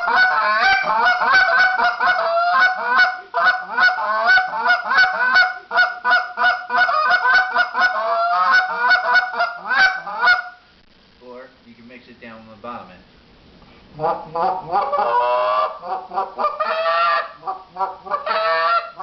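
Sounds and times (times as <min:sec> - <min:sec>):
goose call clucks and honks: 0:00.0 - 0:10.6, 0:14.0 - 0:19.0.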